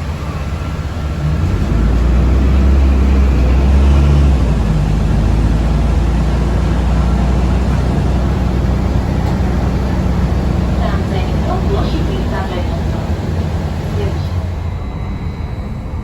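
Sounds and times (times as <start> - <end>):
vehicle cabin rumble and hum: 0.0 - 16.0.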